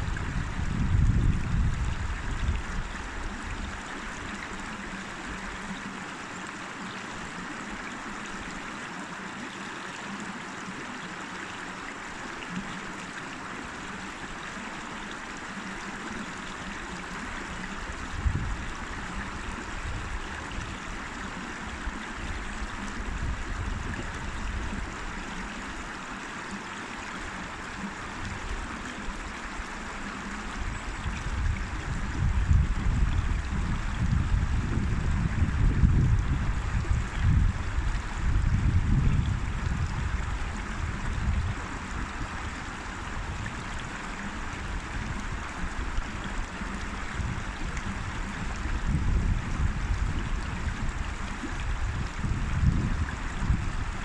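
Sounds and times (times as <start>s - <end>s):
river water rushing: 0.0s - 35.6s, 36.4s - 54.0s.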